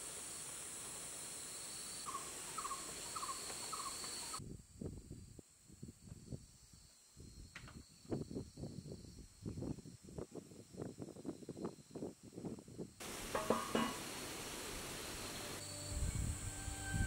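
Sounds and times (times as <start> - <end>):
forest insect drone: 0.0 - 17.0.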